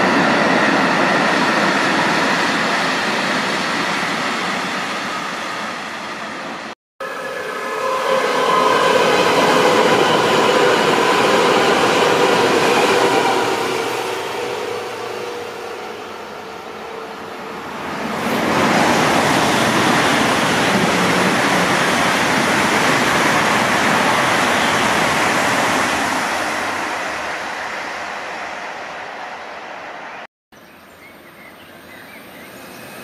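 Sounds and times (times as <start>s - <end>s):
high-speed train rushing past: 0.0s - 30.3s
regional train passing: 0.0s - 30.3s, 30.9s - 33.0s.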